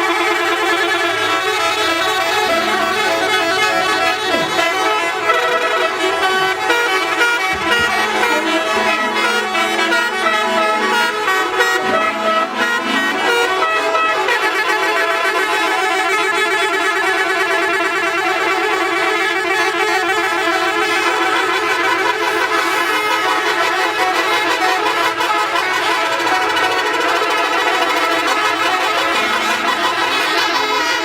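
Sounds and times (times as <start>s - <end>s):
low held horn tone: 0.0s - 31.0s
melodic bus horns: 0.0s - 31.0s.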